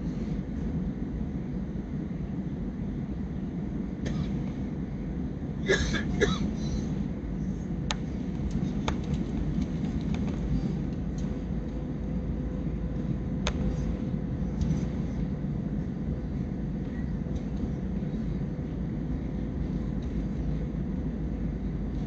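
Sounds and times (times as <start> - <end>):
airliner cabin engine rumble: 0.0 - 22.0
faint steady hum: 0.0 - 22.0.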